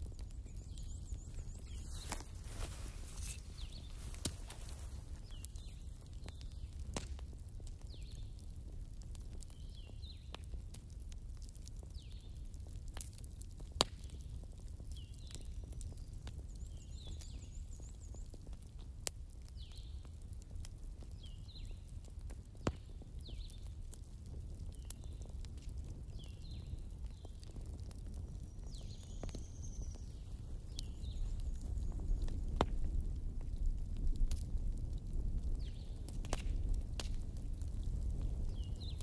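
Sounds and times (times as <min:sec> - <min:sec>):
fire popping: 0:00.0 - 0:39.0
wood fire crackling: 0:00.0 - 0:39.0.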